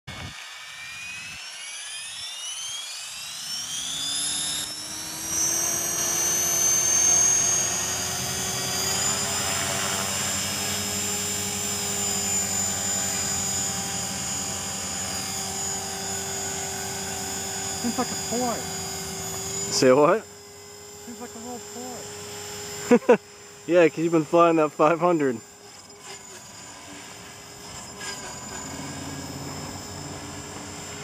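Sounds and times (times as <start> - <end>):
electric motor and gear whine: 0.1 - 31.0
rotor blade noise: 0.1 - 31.0.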